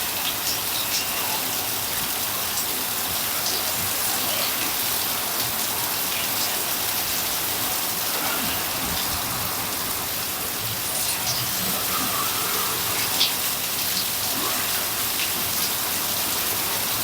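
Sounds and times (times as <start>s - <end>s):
heavy rain falling: 0.0s - 17.0s
individual raindrops: 0.0s - 17.0s.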